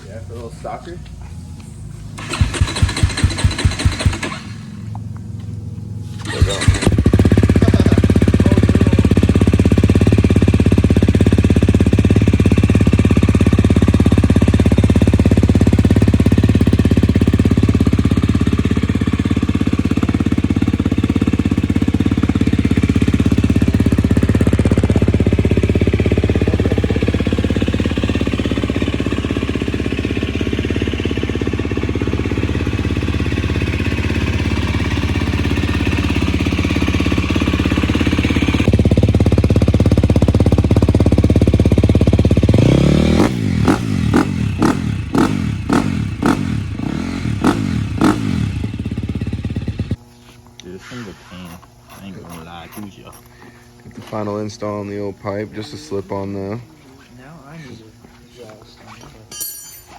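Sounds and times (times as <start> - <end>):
motorcycle engine idling: 0.0 - 50.1.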